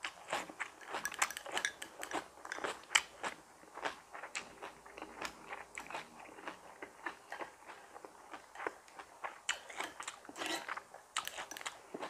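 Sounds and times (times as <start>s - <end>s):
crunchy vegetables being chewed: 0.0s - 12.0s.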